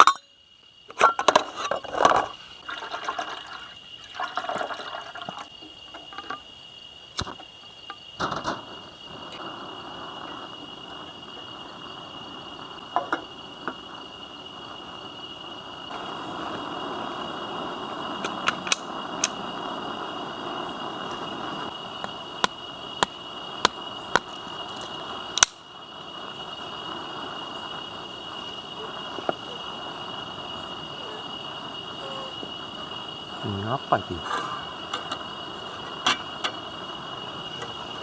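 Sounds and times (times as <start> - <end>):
crickets and insects chirring: 0.0 - 38.0
rushing hiss: 2.0 - 38.0.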